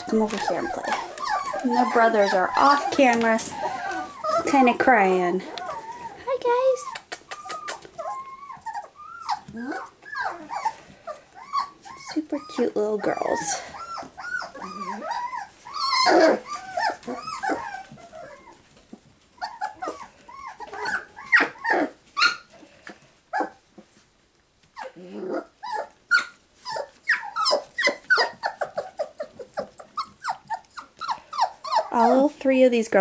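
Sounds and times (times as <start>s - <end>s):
puppies whining and yelping: 0.0s - 24.0s, 24.6s - 32.3s.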